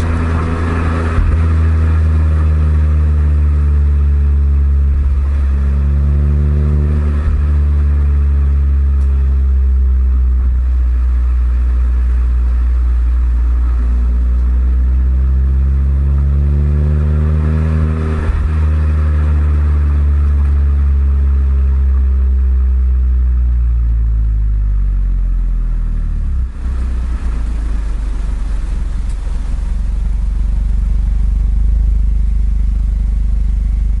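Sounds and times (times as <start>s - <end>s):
car exhaust note accelerating: 0.0s - 34.0s
low steady engine rumble: 0.0s - 34.0s.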